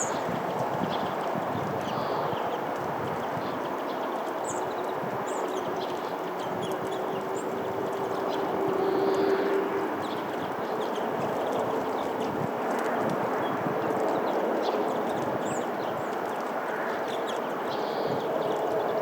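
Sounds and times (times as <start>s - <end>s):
small birds high calls: 0.0s - 19.0s.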